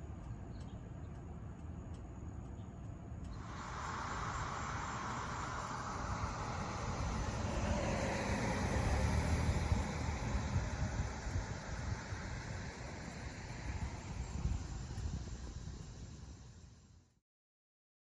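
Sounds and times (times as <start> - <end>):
vehicle deep rumble: 0.0 - 16.6
faint insect chirping: 0.1 - 17.2.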